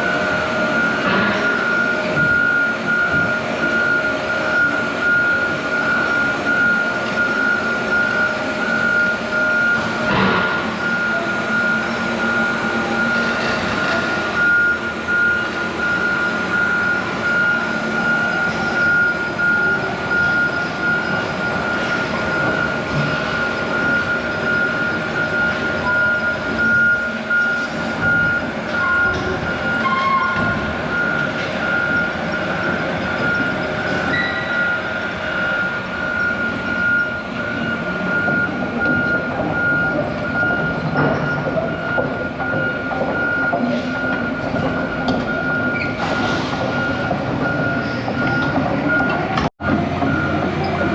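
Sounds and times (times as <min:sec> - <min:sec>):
heavy equipment running: 0:00.0 - 0:50.9.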